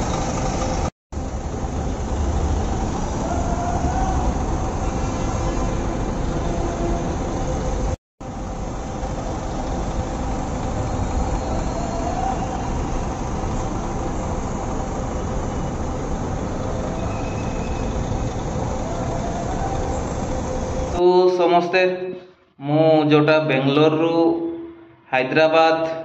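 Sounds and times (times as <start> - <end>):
bus engines rumbling: 0.0 - 21.0
steady hums: 0.0 - 21.0.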